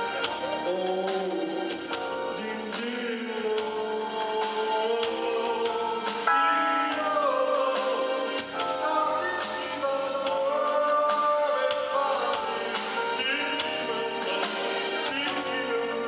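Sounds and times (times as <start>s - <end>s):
pop backing track with drum beat: 0.0s - 16.0s
wordless singing: 0.0s - 16.0s.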